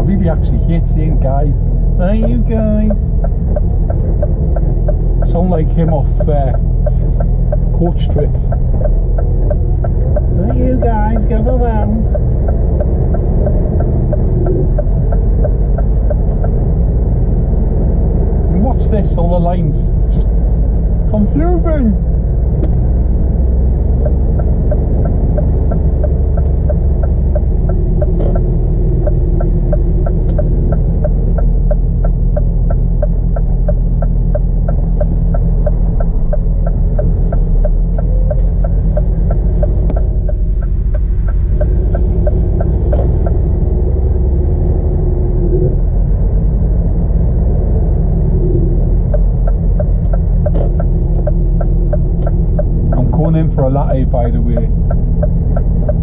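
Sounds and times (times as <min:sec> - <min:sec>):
diesel engine rumble inside cab: 0:00.0 - 0:56.0
turn indicator ticking: 0:00.0 - 0:56.0.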